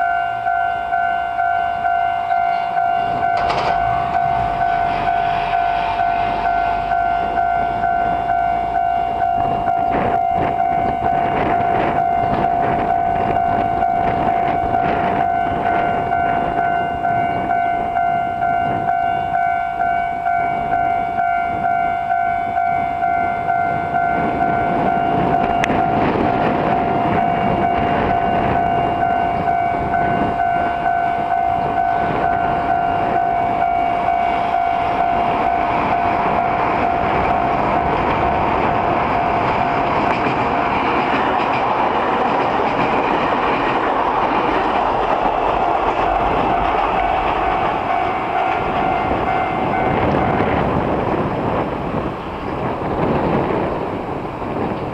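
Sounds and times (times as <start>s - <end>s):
train wheels clattering on rails: 0.0s - 20.0s, 20.7s - 54.9s
level crossing alarm ringing: 0.0s - 40.1s, 45.0s - 50.6s.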